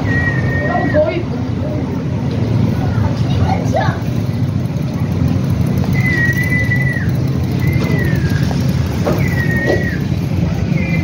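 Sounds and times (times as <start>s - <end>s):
traffic engines rumbling: 0.0s - 11.0s.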